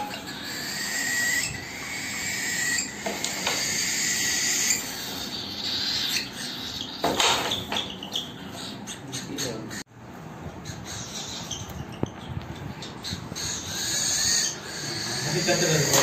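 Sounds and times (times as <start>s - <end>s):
cockatiel screeching: 0.0s - 9.8s, 10.6s - 12.2s, 12.8s - 16.0s.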